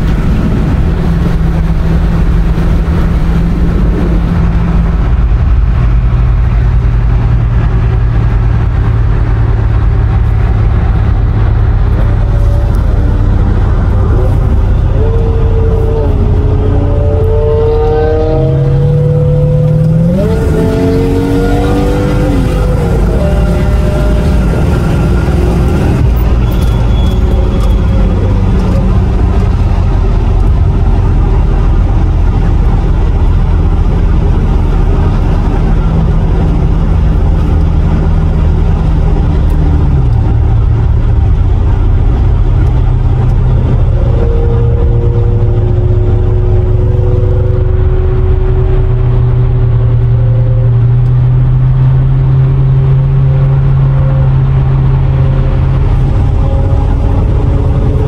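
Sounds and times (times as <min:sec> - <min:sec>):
car engine from inside cabin: 0:00.0 - 0:58.0
road noise: 0:00.0 - 0:58.0.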